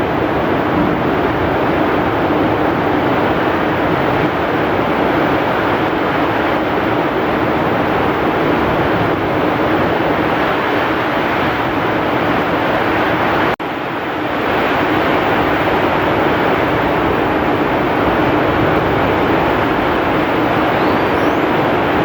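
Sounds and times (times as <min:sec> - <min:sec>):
heavy rain pouring: 0:00.0 - 0:22.0
strong wind: 0:00.0 - 0:22.0.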